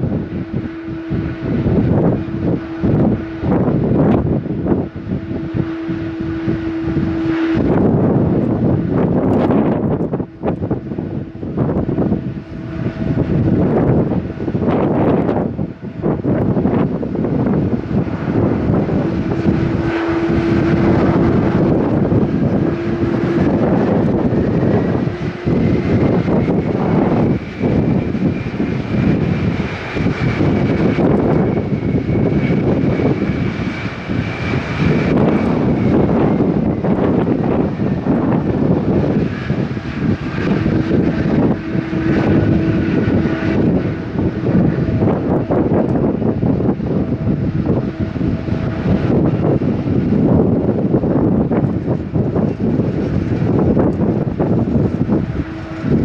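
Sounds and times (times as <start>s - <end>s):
jet engines running: 0.0s - 56.0s
wind buffeting microphone: 0.0s - 56.0s.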